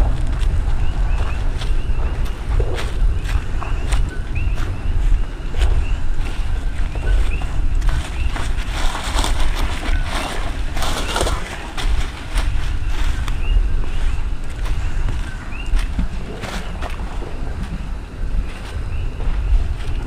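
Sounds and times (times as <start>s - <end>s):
deep rumble of erupting lava: 0.0s - 20.0s
sharp crackles: 0.0s - 20.0s.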